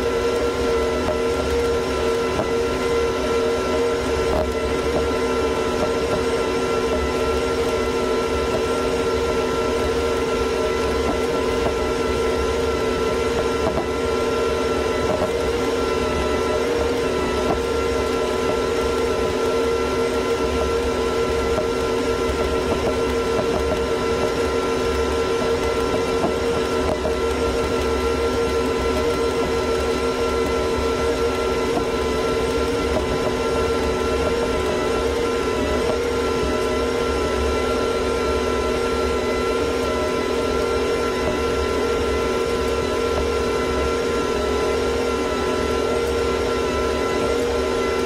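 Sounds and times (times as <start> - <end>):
steady whine: 0.0 - 48.0
tractor engine drone: 0.0 - 48.0.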